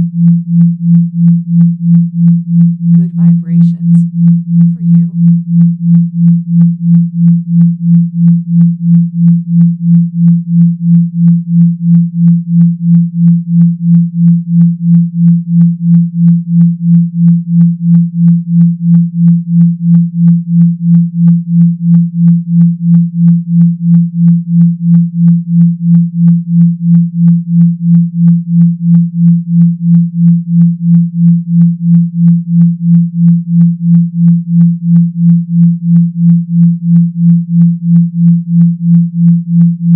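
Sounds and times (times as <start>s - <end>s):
pulsing low humming tone: 0.0s - 39.9s.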